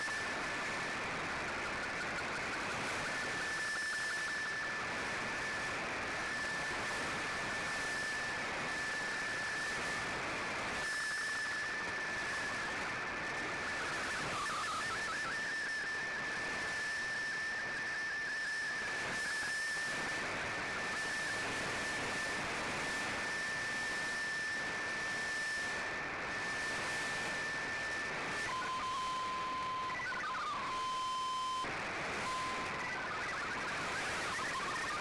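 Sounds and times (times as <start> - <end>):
high whistle-like radio tone: 0.0 - 35.0
radio band hiss and static: 0.0 - 35.0.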